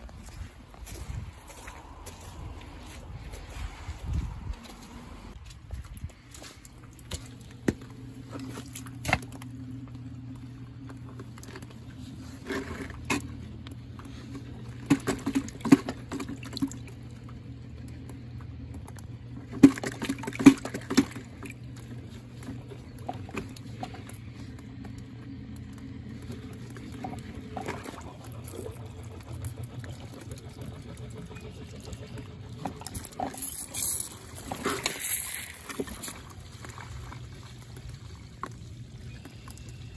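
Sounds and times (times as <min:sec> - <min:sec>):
water pouring from pipe: 0:01.5 - 0:39.9.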